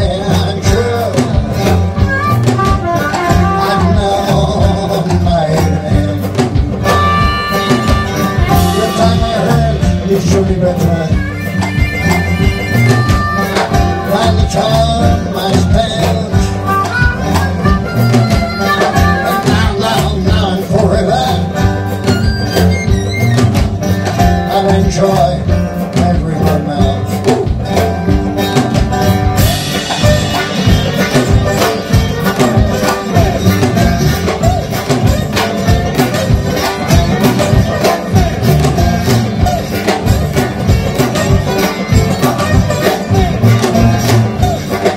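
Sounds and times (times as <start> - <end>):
drums keeping a steady beat: 0.0 - 44.9
guitar: 0.0 - 44.9
harmonica melody: 0.0 - 44.9
upright double bass: 0.0 - 44.9.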